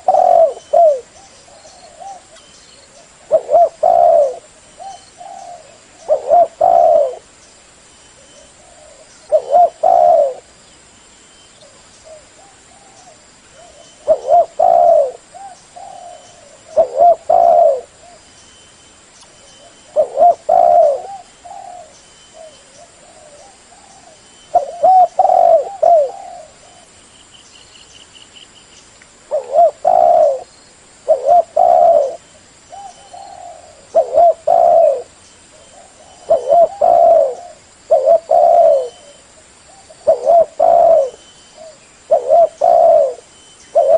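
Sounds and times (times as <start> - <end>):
dove cooing: 0.0 - 7.3, 8.2 - 10.5, 11.6 - 18.2, 19.6 - 27.0, 29.3 - 43.9.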